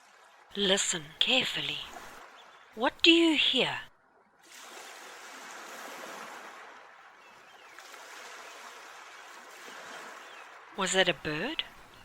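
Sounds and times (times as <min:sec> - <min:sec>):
waves breaking on beach: 0:00.0 - 0:03.8, 0:04.4 - 0:12.0.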